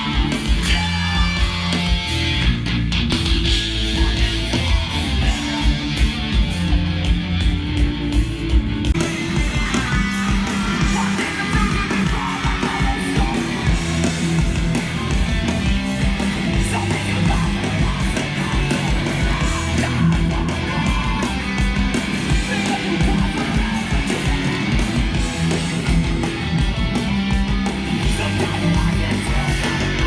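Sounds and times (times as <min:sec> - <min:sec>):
distorted electric guitars: 0:00.0 - 0:30.0
drums: 0:00.0 - 0:30.0.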